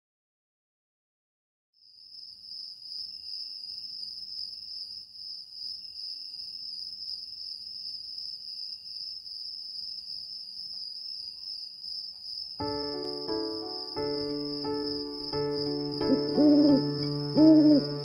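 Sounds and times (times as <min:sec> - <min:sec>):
high-pitched cricket trill: 0:01.8 - 0:18.0.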